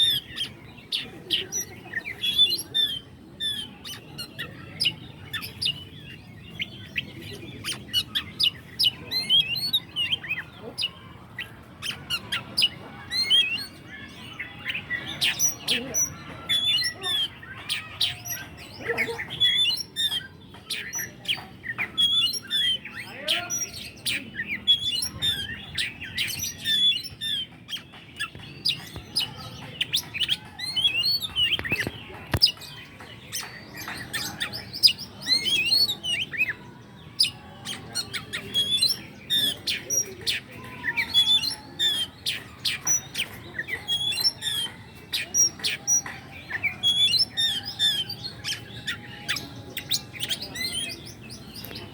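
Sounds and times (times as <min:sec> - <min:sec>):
bird singing: 0:00.0 - 0:51.9.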